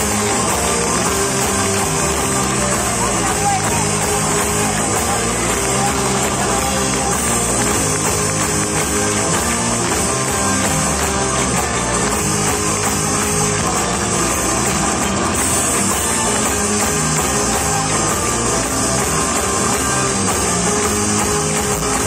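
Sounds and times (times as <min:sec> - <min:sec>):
acoustic guitar: 0:00.0 - 0:22.0
drum kit: 0:00.0 - 0:22.0
electric guitars: 0:00.0 - 0:22.0.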